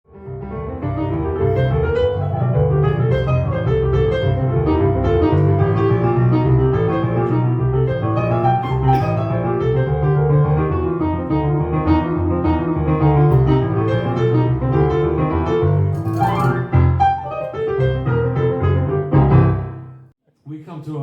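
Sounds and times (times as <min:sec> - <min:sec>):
piano music: 0:00.1 - 0:20.2.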